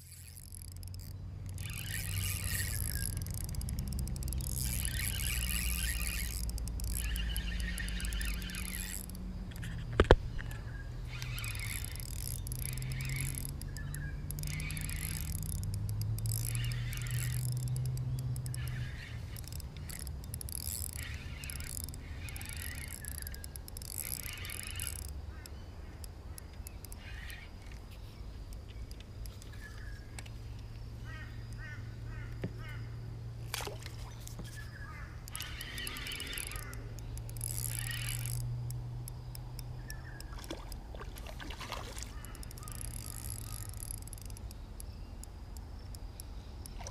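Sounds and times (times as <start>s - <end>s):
birds calling: 0.0s - 46.9s
steady low hum: 0.0s - 46.9s.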